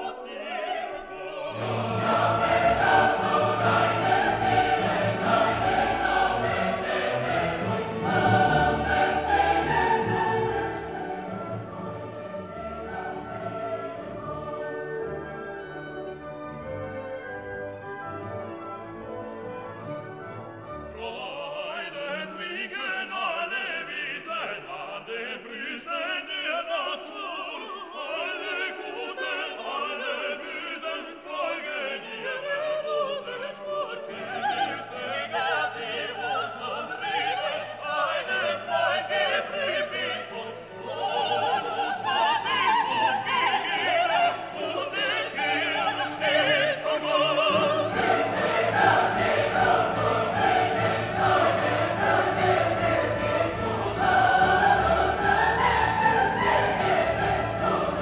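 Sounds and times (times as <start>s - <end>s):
operatic singing over orchestra: 0.0s - 58.0s.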